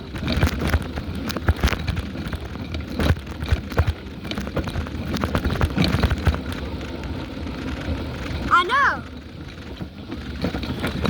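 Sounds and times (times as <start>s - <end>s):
bicycle knocks and rattles: 0.0s - 8.5s, 9.1s - 11.0s
rumble of tyres: 0.0s - 11.0s
wind: 0.0s - 11.0s.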